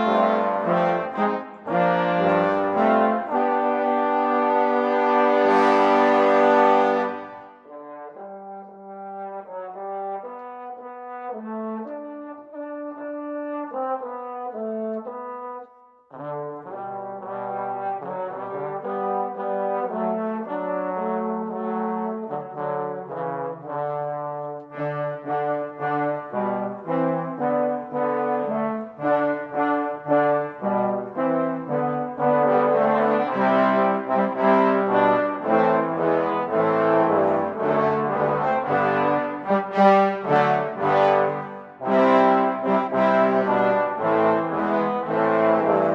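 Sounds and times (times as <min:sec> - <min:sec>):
brass ensemble playing chords: 0:00.0 - 0:15.4, 0:16.1 - 0:45.9.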